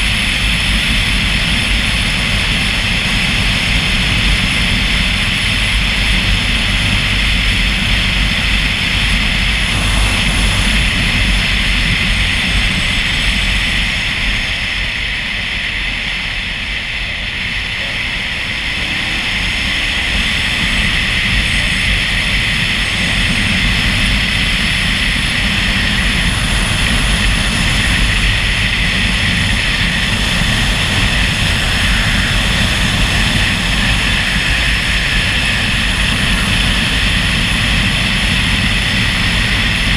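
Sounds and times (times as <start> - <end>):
low engine drone: 0.0 - 39.9
wind rushing over microphone: 0.0 - 39.9.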